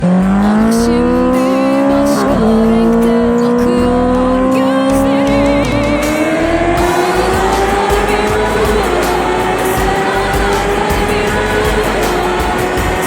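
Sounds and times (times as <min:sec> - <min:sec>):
motorcycle engine accelerating hard: 0:00.0 - 0:13.0.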